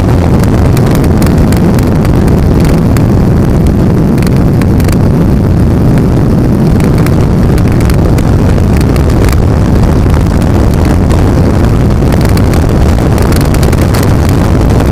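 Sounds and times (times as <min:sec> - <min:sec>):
powerboat engines at full throttle: 0:00.0 - 0:14.9
wind buffeting microphone: 0:00.0 - 0:14.9.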